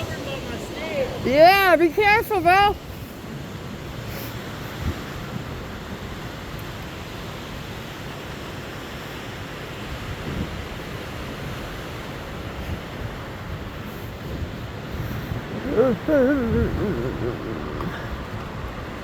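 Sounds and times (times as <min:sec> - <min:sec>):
strong wind rumbling on microphone: 0:00.0 - 0:19.0.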